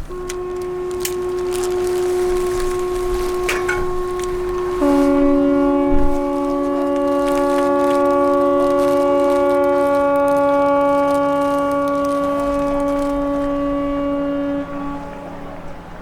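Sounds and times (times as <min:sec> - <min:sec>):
ship horns blasting: 0:00.0 - 0:16.0.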